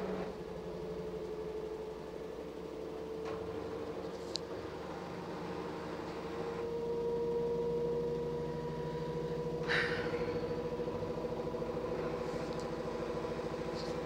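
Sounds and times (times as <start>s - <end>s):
washing machine whining hum: 0.0s - 14.0s.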